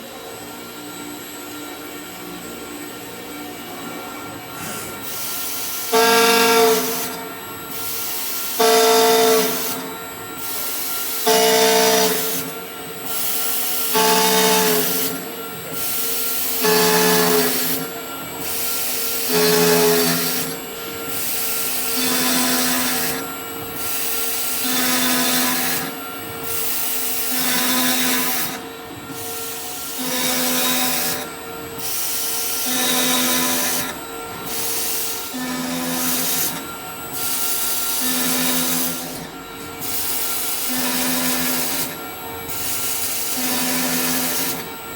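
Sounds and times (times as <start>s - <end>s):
milling machine spindle whine: 0.0s - 44.9s
metal cutting noise: 4.4s - 44.9s.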